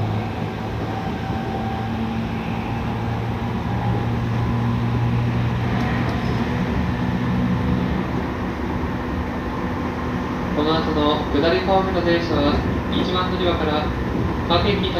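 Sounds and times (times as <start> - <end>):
train wheels rumbling on rail: 0.0 - 14.9.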